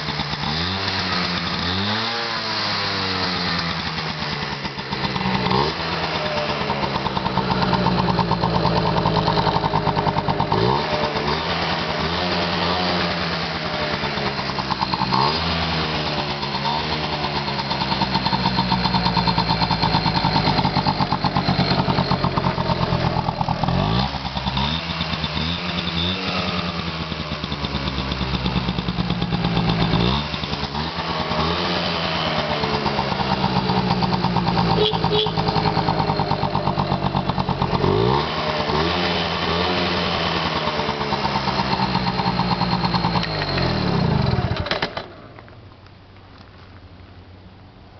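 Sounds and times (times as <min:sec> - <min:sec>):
two-stroke engine revving: 0:00.0 - 0:45.1.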